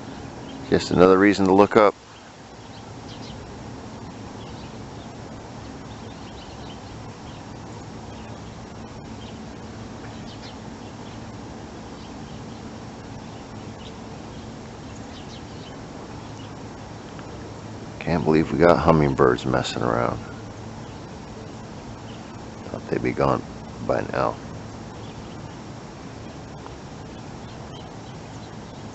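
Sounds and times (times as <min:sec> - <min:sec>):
small birds chirping: 0:00.0 - 0:28.9
steady low rumble: 0:00.0 - 0:28.9.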